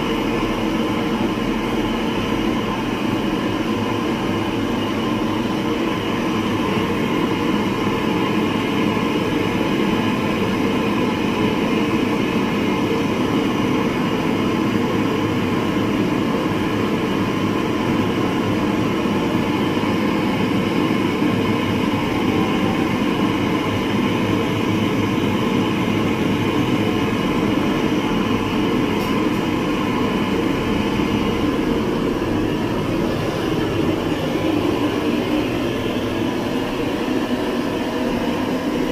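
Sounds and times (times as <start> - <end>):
machine running with hum: 0.0 - 38.9.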